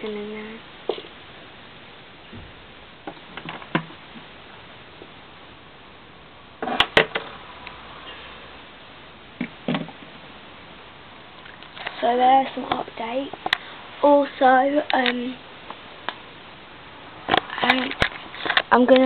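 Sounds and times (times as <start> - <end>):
steady low hiss: 0.0 - 19.0.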